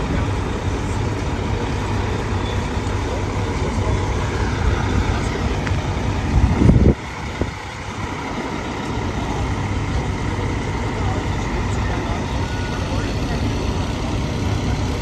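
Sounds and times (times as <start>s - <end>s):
vehicle engine idling: 0.0s - 15.0s
wind buffeting microphone: 0.0s - 15.0s.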